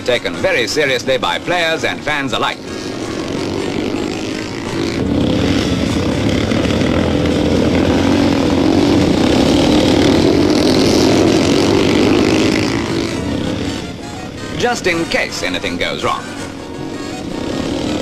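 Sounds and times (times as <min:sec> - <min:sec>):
motorcycle engines roaring: 0:00.0 - 0:18.0.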